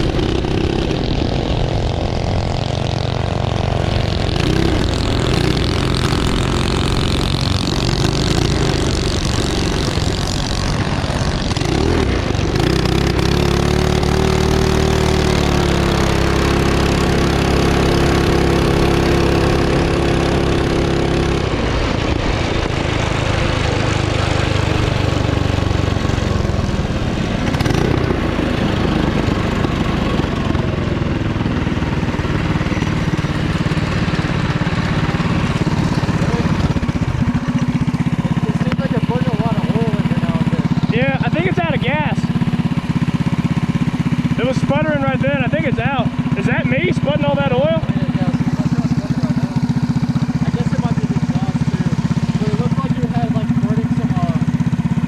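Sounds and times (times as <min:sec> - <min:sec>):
minibike engine revving: 0:00.0 - 0:55.0.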